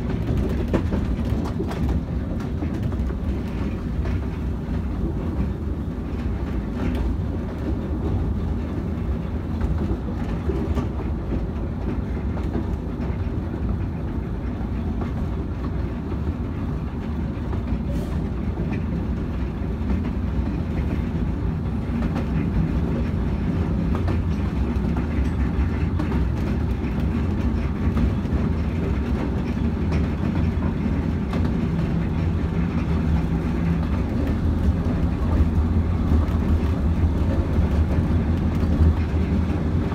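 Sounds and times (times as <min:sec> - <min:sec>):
wheels rumbling on rails: 0:00.0 - 0:39.9.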